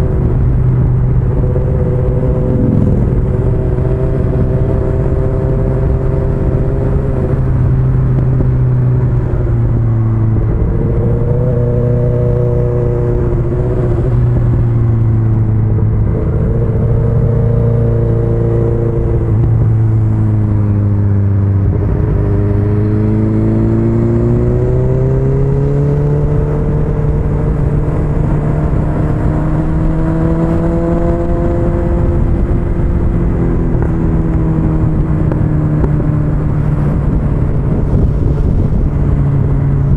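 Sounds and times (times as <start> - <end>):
wind rushing: 0.0 - 20.8, 21.4 - 39.9
motorcycle engine revving: 0.0 - 39.9.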